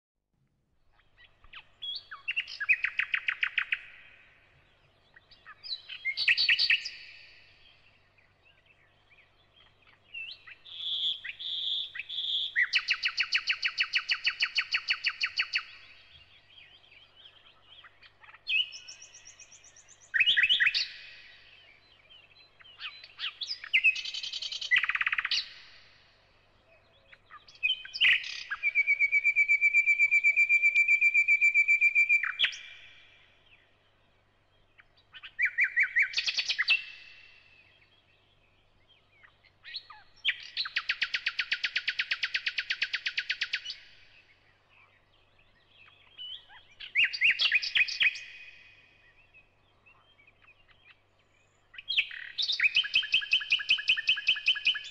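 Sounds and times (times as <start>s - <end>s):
songbird chirping trills: 0.4s - 54.9s.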